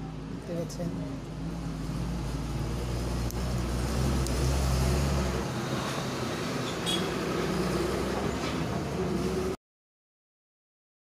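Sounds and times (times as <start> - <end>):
road traffic noise: 0.0 - 9.6
vehicle engine hum: 0.0 - 9.6.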